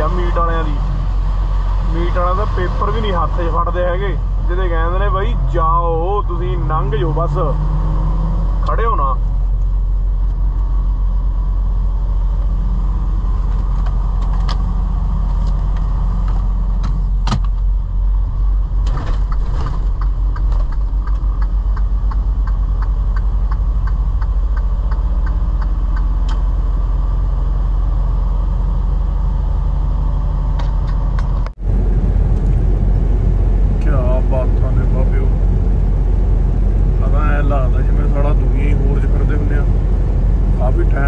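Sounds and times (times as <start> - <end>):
truck engine and road noise: 0.0 - 41.0.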